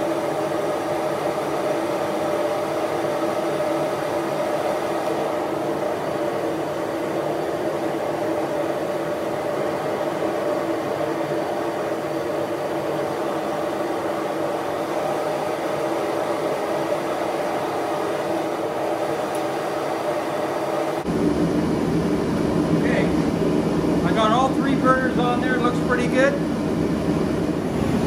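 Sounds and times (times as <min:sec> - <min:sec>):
gas forge fan and burner hum: 0:00.0 - 0:28.0.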